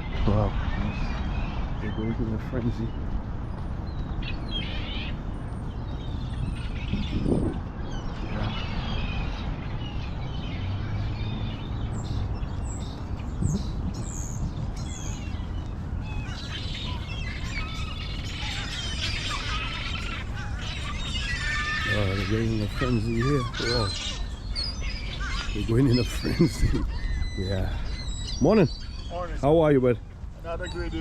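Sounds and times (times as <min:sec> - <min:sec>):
flock of birds calling: 0:00.0 - 0:31.0.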